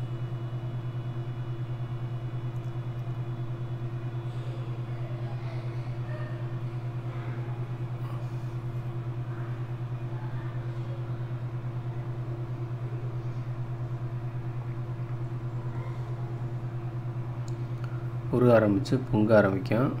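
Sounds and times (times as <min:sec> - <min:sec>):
pulsing mechanical hum: 0:00.0 - 0:20.0.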